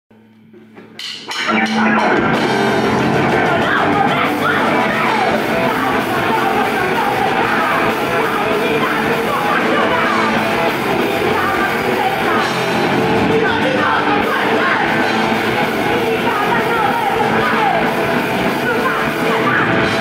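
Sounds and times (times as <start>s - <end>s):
bass guitar: 0.1s - 20.0s
drum kit: 0.1s - 20.0s
electric guitars: 0.2s - 20.0s
person shouting singing: 3.0s - 20.0s.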